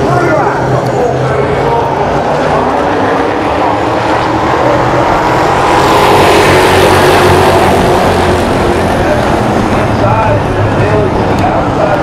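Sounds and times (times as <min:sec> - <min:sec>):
stock car engines racing: 0:00.0 - 0:12.0.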